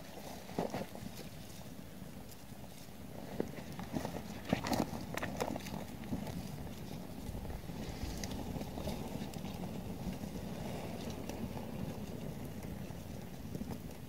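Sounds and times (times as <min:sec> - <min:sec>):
campfire crackles: 0:00.0 - 0:14.0.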